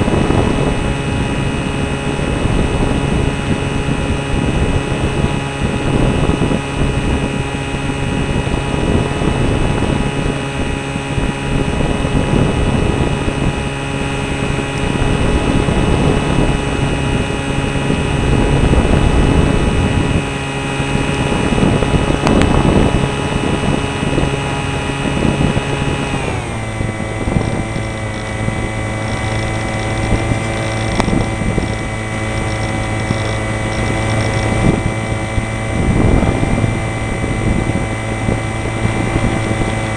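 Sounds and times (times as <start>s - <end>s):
model airplane motor and propeller: 0.0s - 39.9s
wind rushing over microphone: 0.0s - 39.9s.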